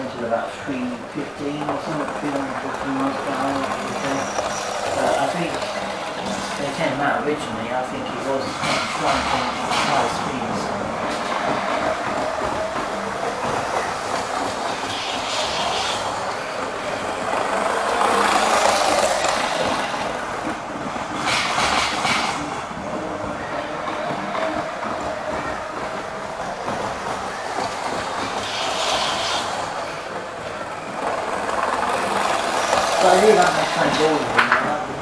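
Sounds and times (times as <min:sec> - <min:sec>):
clicking over rail joints: 0:00.0 - 0:35.0
model train running: 0:00.0 - 0:35.0.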